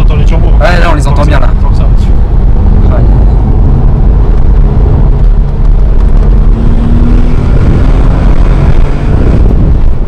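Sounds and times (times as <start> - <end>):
car engine drone: 0.0 - 10.0.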